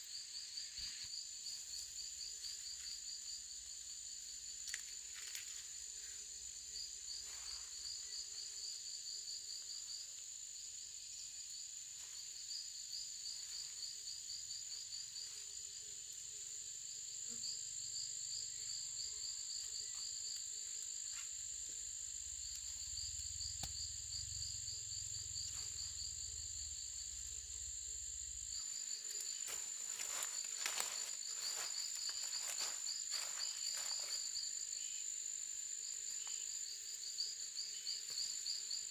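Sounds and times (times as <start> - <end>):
insects chirping and trilling: 0.0 - 38.9.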